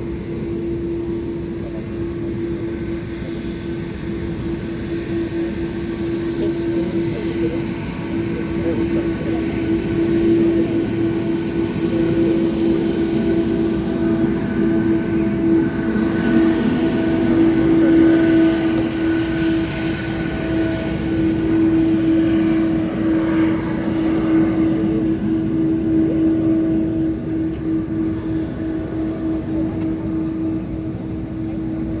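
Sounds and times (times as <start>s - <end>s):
aircraft engine droning: 0.0s - 32.0s.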